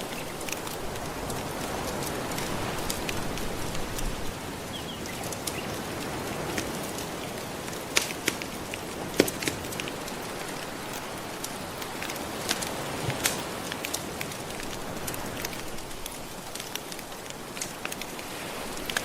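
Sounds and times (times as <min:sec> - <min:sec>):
gentle ocean waves: 0:00.0 - 0:19.0
wood fire crackling and popping: 0:00.0 - 0:19.0.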